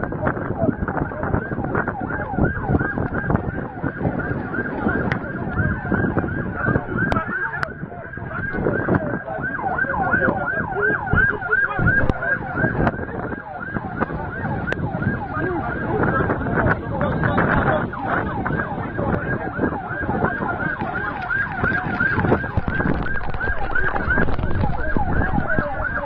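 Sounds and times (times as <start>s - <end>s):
dense background din: 0.0s - 26.0s
emergency siren yelping: 0.0s - 26.0s.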